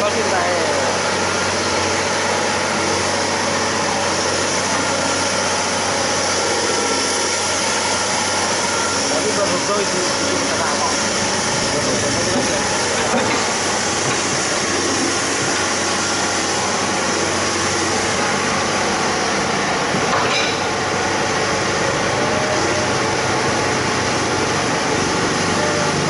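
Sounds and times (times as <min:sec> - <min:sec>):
excavator running: 0:00.0 - 0:26.0.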